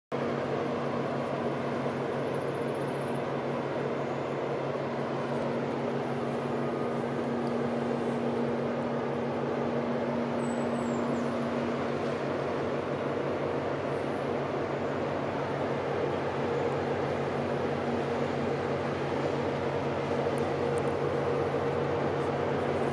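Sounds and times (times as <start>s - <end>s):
ship engines droning: 0.1s - 22.9s.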